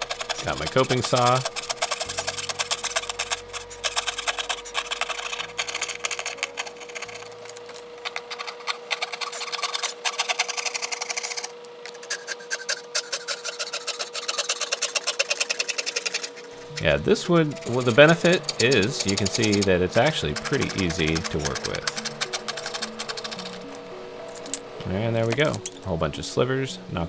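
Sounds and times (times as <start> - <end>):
saw cutting plywood: 0.0 - 23.7
faint steady hum: 0.0 - 27.0.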